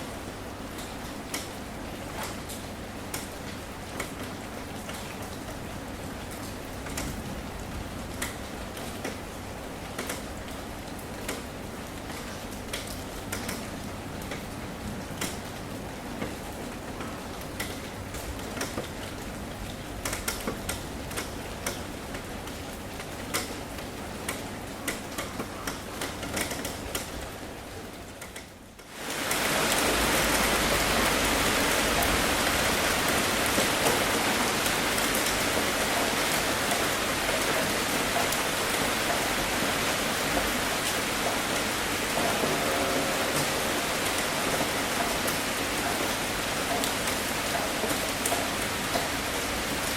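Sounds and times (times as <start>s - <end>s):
heavy rain downpour: 0.0s - 49.9s.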